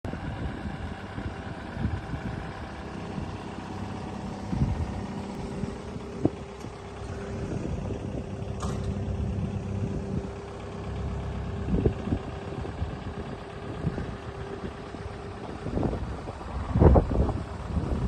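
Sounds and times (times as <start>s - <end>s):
diesel engine idling: 0.1s - 18.0s.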